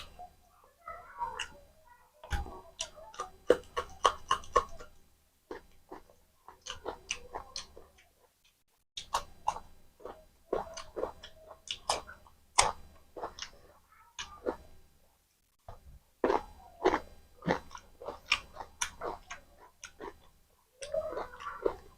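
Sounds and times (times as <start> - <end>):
wet chewing and lip-smacking: 2.3 - 14.6, 16.2 - 21.9.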